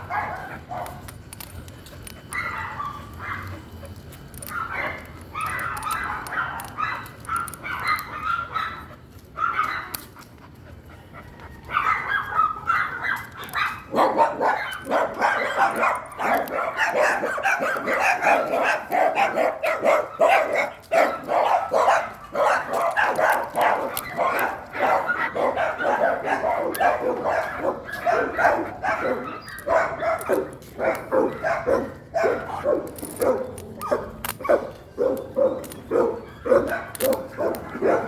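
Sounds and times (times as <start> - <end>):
dog barking: 0.0 - 1.0, 2.3 - 3.5, 4.4 - 10.0, 11.7 - 38.0.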